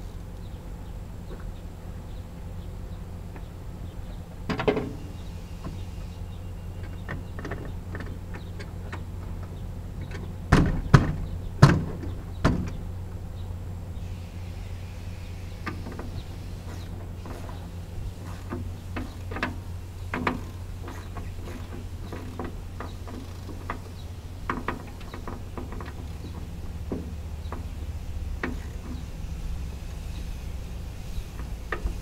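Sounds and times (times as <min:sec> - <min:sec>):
tractor engine idling: 0:00.0 - 0:32.0.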